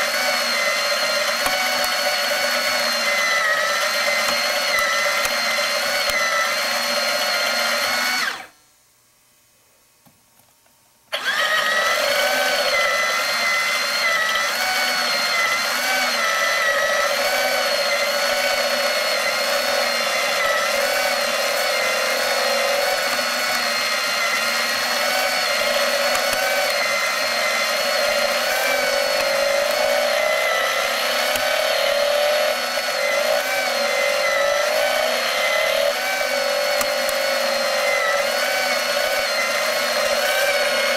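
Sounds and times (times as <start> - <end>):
small electric motor whine: 0.0 - 8.6, 11.1 - 40.9.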